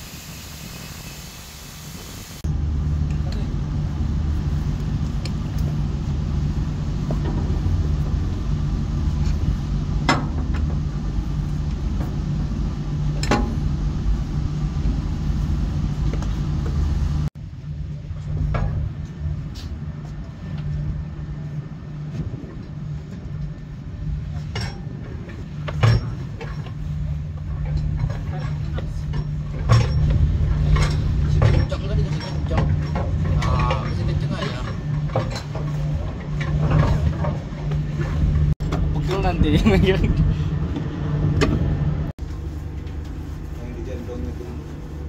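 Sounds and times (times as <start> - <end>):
ship machinery humming: 2.4 - 45.0.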